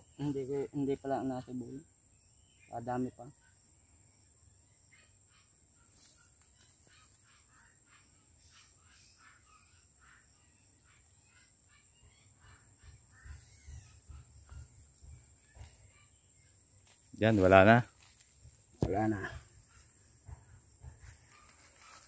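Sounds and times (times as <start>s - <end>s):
high insect whine: 0.0s - 22.0s.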